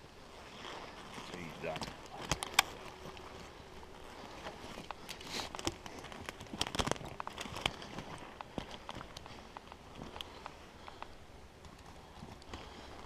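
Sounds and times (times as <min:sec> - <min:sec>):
footsteps in brush: 0:00.2 - 0:13.0
twigs snapping: 0:01.1 - 0:13.0.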